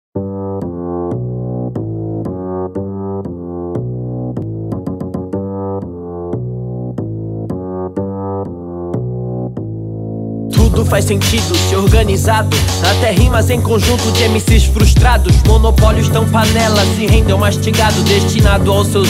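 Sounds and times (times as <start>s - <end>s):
muffled keyboard chords: 0.2s - 19.0s.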